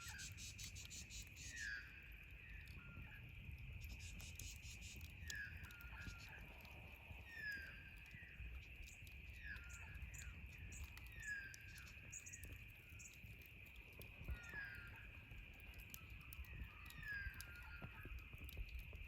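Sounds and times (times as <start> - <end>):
campfire crackling: 0.0 - 19.0
insect drone: 0.0 - 19.0.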